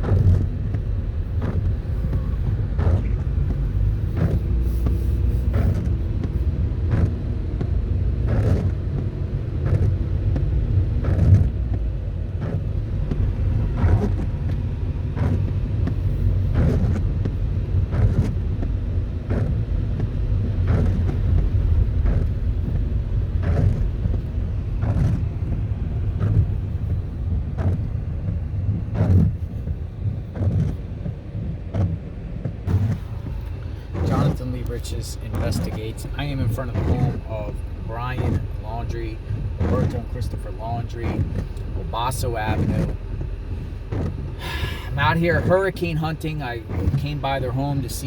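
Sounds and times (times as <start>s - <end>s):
car rumbling: 0.0s - 48.0s.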